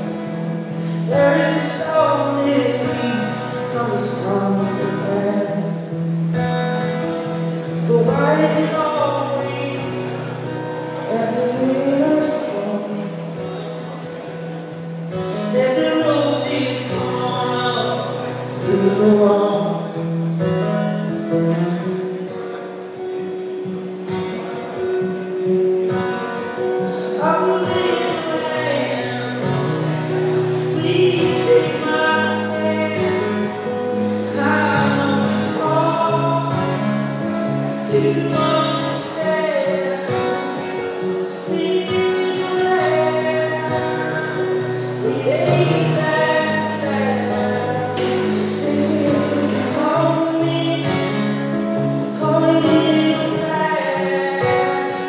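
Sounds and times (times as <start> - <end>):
person singing into a microphone: 0.0 - 22.4, 24.3 - 55.0
acoustic guitar: 0.0 - 55.0.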